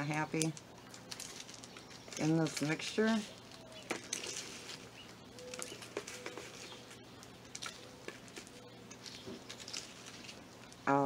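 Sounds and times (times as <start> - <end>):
clay pebbles clicking: 0.3 - 11.0
soil rustling: 0.3 - 11.0.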